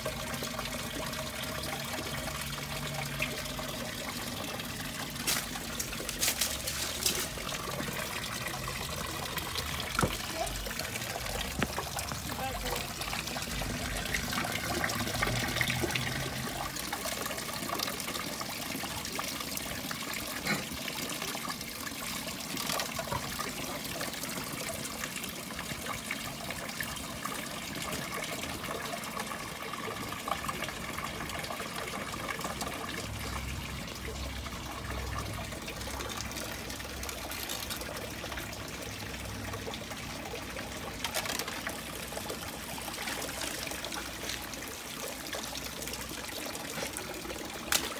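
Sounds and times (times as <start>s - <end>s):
water trickling into pond: 0.0s - 47.9s.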